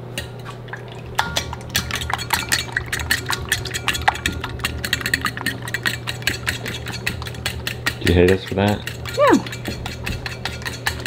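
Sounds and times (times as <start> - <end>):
fork clinking in metal bowl: 1.2 - 11.0.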